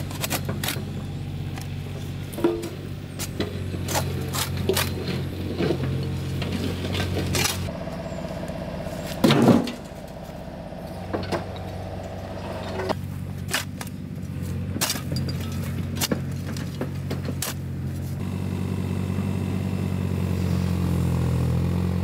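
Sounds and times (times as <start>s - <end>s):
mattock chopping stony soil: 0.0s - 7.8s, 8.4s - 18.6s
machine engine idling: 0.0s - 22.0s.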